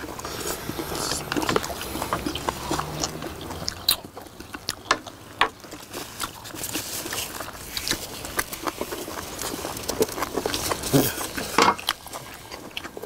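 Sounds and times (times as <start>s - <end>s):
people chewing open-mouthed: 0.0s - 13.0s.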